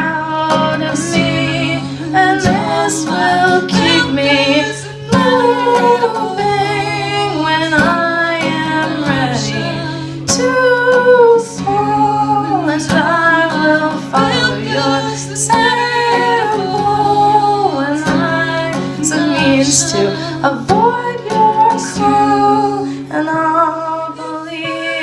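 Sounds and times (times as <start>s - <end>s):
guitar accompaniment: 0.0s - 25.0s
woman singing: 0.0s - 25.0s.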